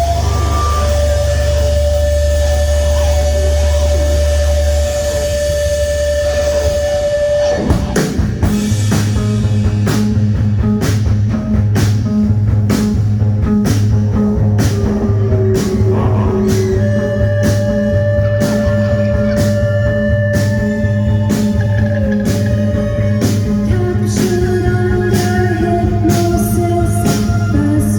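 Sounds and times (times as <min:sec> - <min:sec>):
held tone over low drone: 0:00.0 - 0:09.9, 0:13.2 - 0:27.9
drums and bass: 0:00.0 - 0:27.9.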